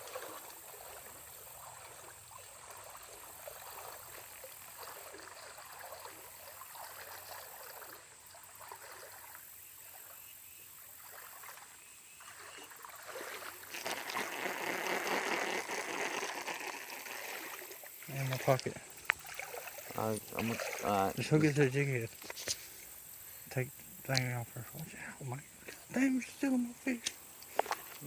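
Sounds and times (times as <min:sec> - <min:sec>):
creek water babbling: 0:00.0 - 0:28.0.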